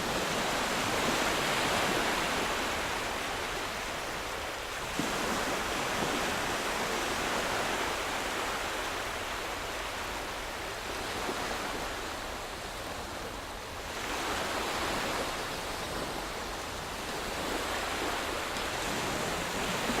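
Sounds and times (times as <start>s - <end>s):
calm waves washing in: 0.0s - 20.0s.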